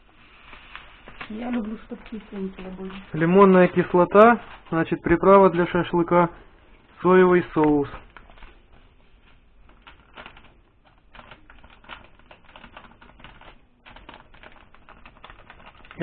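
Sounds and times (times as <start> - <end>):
paper sachet crackling: 0.0 - 16.0.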